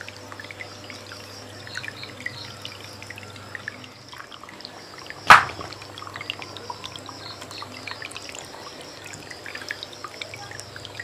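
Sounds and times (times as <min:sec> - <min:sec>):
water drips: 0:00.0 - 0:11.0
water trickling over rocks: 0:00.0 - 0:11.0.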